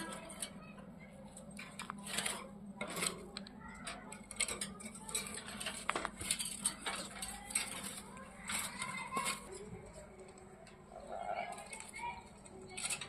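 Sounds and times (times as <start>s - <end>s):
parakeets scuffling in cage: 1.4s - 13.0s
rustling: 1.4s - 13.0s.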